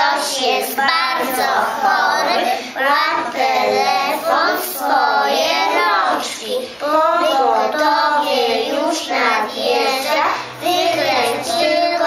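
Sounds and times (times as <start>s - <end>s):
children chanting in unison: 0.0s - 12.0s.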